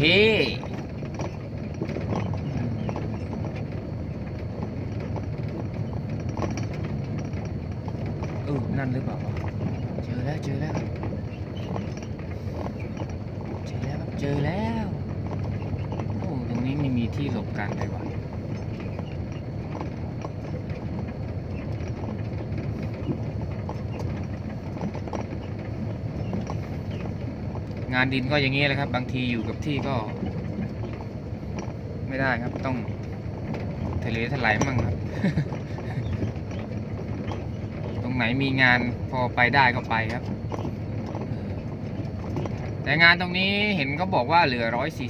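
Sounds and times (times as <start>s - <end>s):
diesel truck engine running: 0.0s - 45.0s
knocks and rattles: 0.0s - 45.0s.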